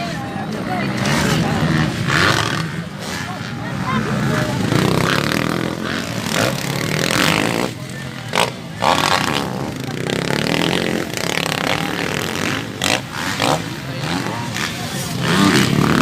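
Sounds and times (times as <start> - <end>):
dirt bike engines running: 0.0 - 16.0.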